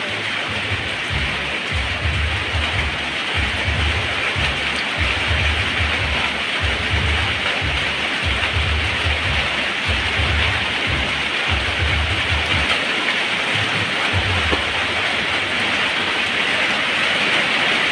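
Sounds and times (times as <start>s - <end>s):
steady rain hissing: 0.0s - 17.9s
low rumbles: 0.5s - 12.8s, 13.6s - 15.8s.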